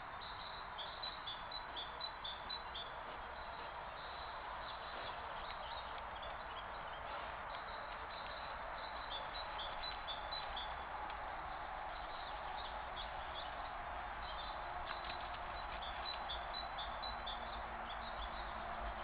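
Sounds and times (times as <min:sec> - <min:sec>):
microphone hiss: 0:00.0 - 0:19.0
small birds chirping: 0:00.0 - 0:19.0.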